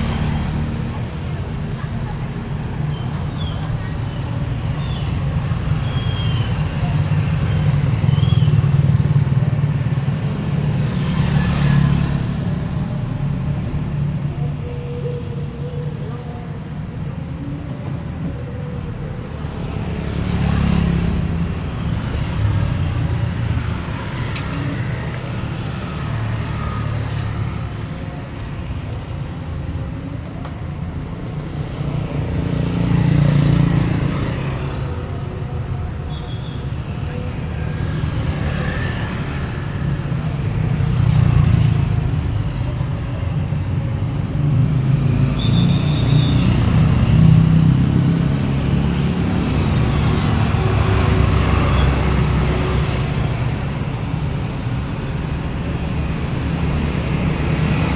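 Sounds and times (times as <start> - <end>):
road traffic rumble: 0.0 - 57.9
vehicles passing close: 0.0 - 57.9.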